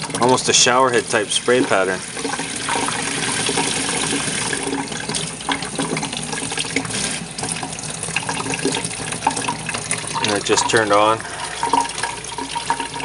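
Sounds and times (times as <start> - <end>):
faucet water splashing into sink: 0.0 - 13.0.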